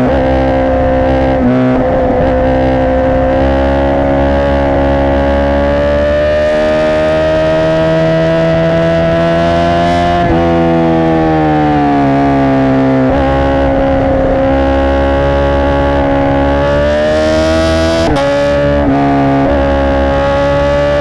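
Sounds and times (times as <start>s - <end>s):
motorcycle engine loud steady note: 0.0s - 21.0s.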